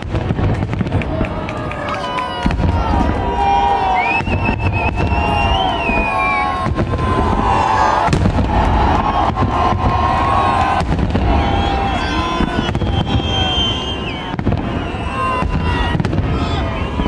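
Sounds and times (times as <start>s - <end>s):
fireworks booming: 0.0s - 17.0s
sharp fireworks cracks: 0.0s - 17.0s.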